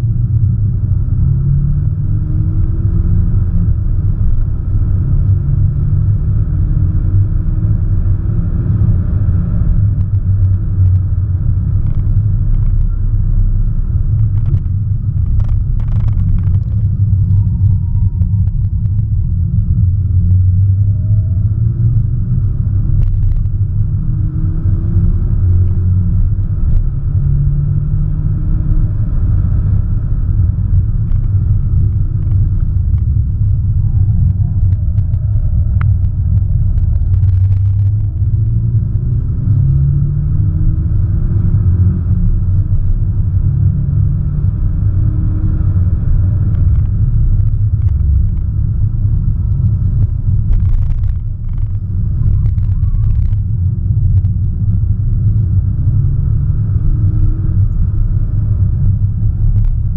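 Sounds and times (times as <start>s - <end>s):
car engine accelerating: 0.0s - 59.9s
road noise rumble: 0.0s - 59.9s.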